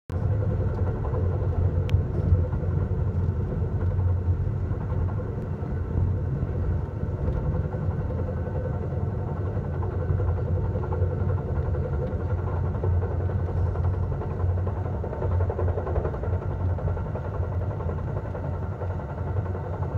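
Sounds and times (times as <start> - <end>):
train wheels rumbling on rails: 0.1 - 19.9.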